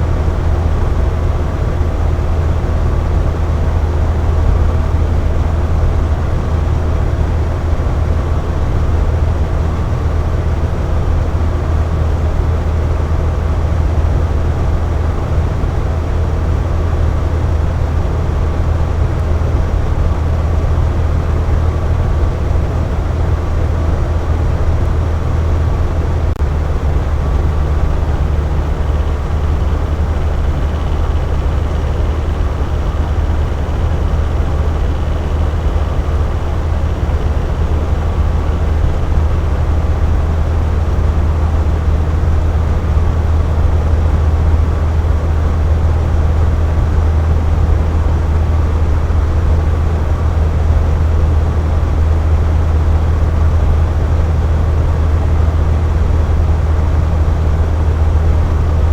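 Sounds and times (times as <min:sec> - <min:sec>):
electric fan humming: 0:00.0 - 0:58.9.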